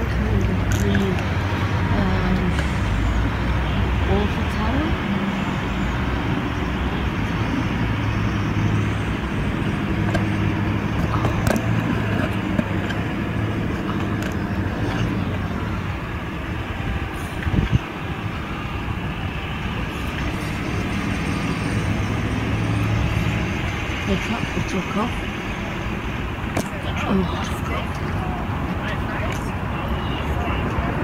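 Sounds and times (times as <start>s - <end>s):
road noise: 0.0s - 31.0s
vehicle engine humming: 0.0s - 31.0s.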